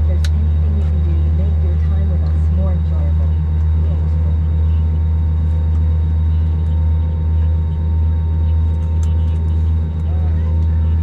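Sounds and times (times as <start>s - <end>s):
aircraft cabin engine drone: 0.0s - 11.0s.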